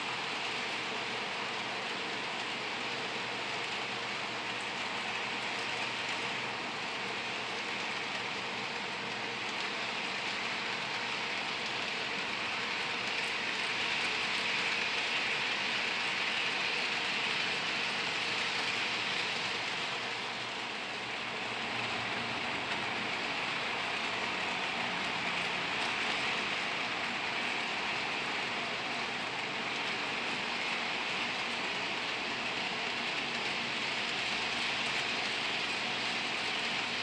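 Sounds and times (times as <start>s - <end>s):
model train whirring and rattling: 0.0s - 37.0s.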